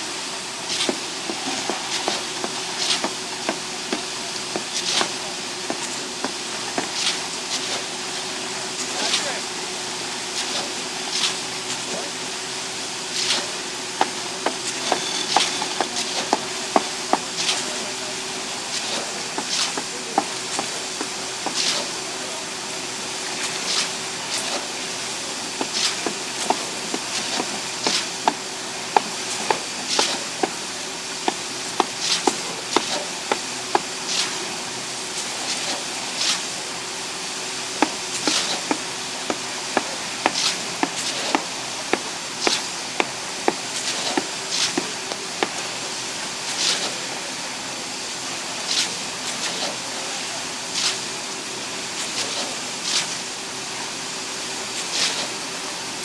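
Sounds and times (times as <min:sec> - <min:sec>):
steady hum: 0:00.0 - 0:46.3.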